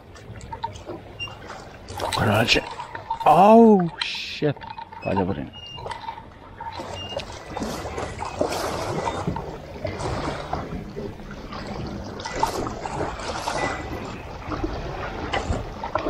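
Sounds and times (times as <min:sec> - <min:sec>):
water lapping and splashing: 0:00.0 - 0:16.0.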